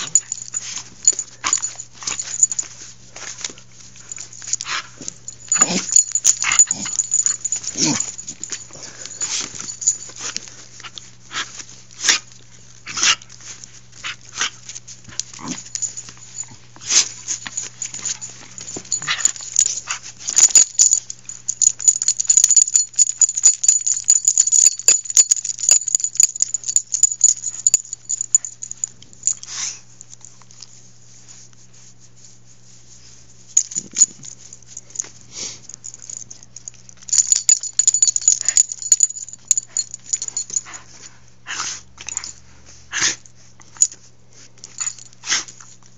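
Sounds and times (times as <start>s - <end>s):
dog play-fighting: 0.0s - 30.8s, 33.6s - 45.9s.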